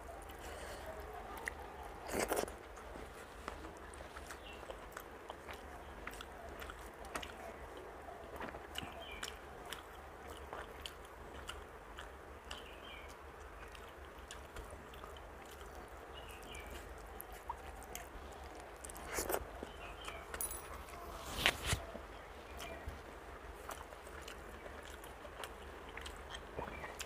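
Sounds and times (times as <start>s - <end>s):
wet chewing: 0.0s - 27.0s.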